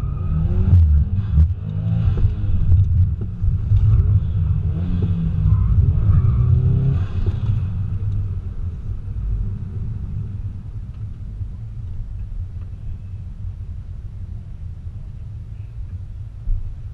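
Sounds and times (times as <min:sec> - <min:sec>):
car engine heard from cabin: 0:00.0 - 0:16.9.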